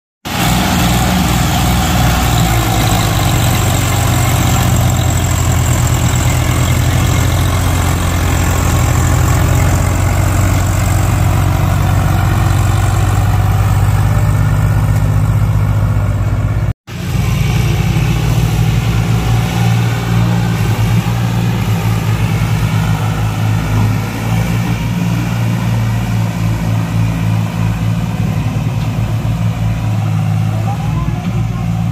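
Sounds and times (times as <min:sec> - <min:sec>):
tractor diesel engine under load: 0:00.2 - 0:31.9.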